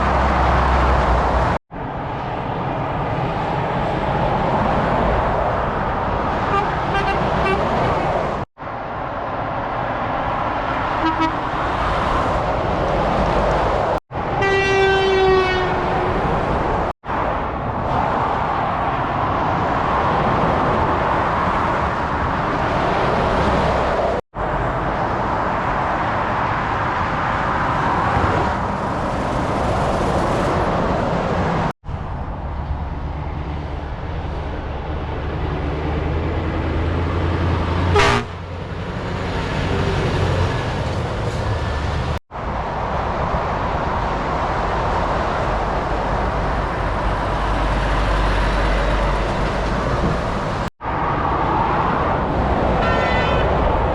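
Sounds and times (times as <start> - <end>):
motorway traffic: 0.0 - 53.9.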